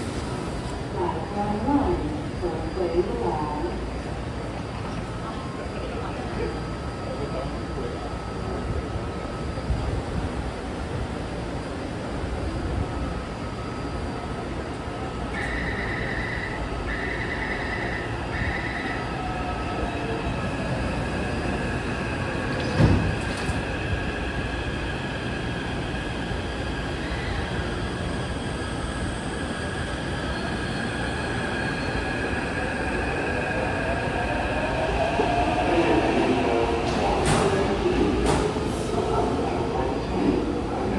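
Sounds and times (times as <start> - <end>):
train wheels rumbling on rail: 7.8 - 40.9.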